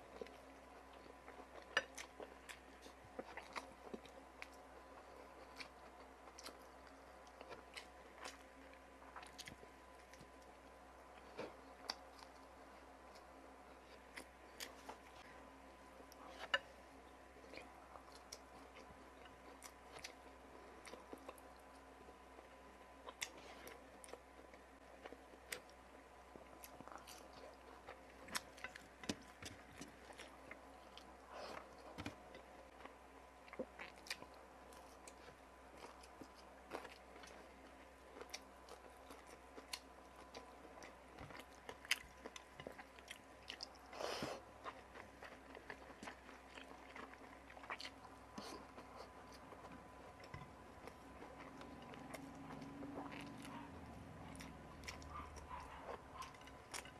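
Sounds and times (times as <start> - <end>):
close chewing and crunching: 0.0 - 15.4, 16.0 - 56.9.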